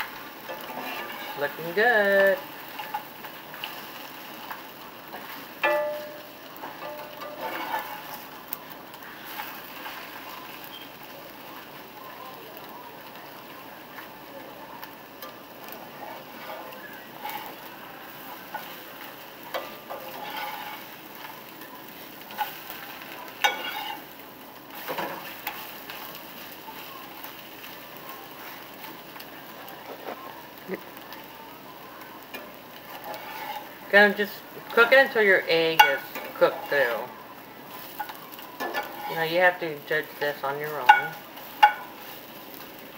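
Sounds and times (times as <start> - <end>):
egg sizzling in a skillet: 0.0 - 42.9.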